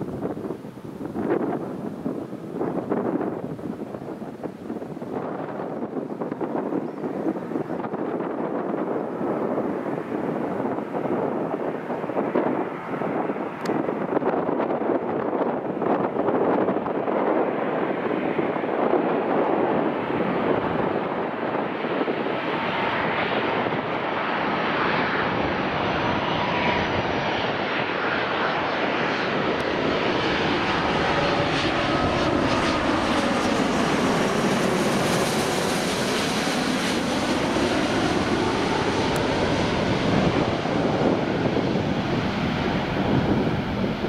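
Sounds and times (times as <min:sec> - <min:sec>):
jet engines roaring overhead: 0:00.0 - 0:44.0.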